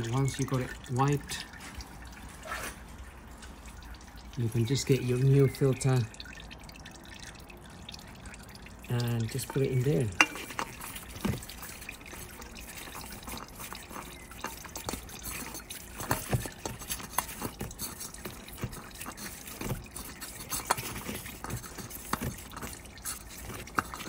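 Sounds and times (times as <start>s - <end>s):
oil dripping: 0.0s - 24.0s.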